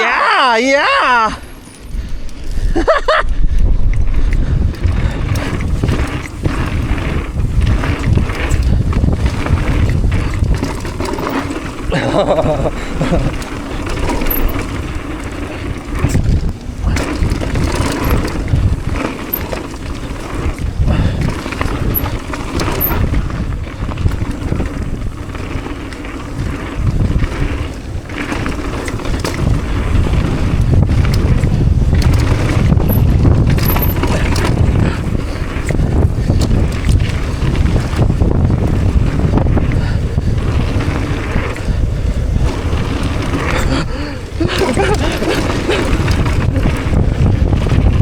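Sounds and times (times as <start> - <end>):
bike tyres on dirt trail: 0.0 - 48.0
wind buffeting microphone: 1.3 - 48.0
bike knocks and rattles: 1.6 - 48.0.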